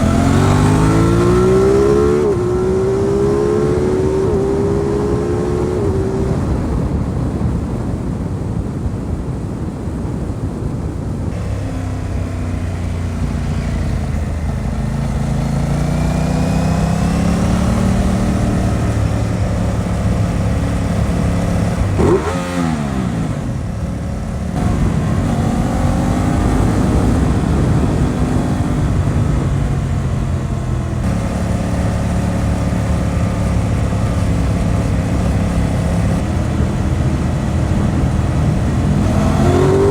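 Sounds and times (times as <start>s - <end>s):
motorcycle engine revving: 0.0s - 7.2s, 11.3s - 39.9s
wind rush: 0.0s - 39.9s.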